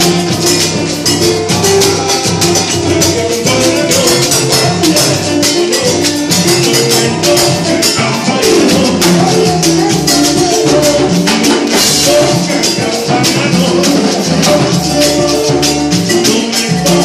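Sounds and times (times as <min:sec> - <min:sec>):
instrumental salsa music: 0:00.0 - 0:17.0.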